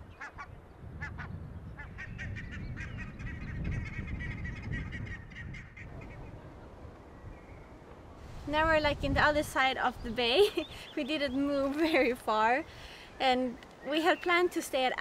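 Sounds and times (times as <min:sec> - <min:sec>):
water birds calling: 0:00.0 - 0:07.9, 0:09.9 - 0:15.0.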